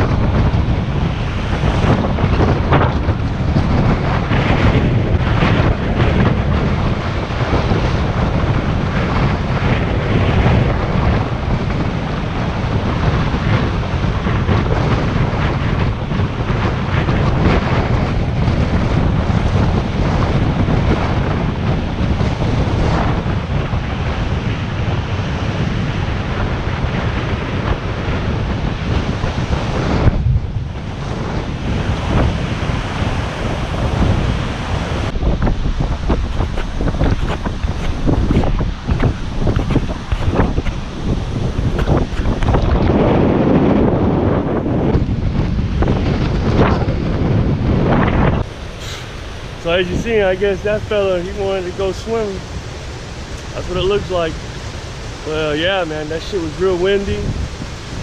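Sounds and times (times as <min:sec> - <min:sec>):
surf breaking on beach: 0:00.0 - 0:58.0
wind buffeting microphone: 0:00.0 - 0:58.0.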